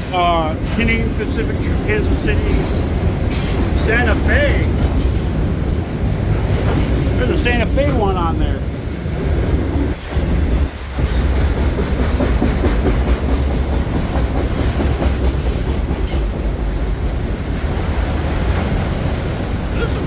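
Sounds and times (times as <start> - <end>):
freight train rumbling past: 0.0 - 20.0
train wheels clicking over rail joints: 0.0 - 20.0.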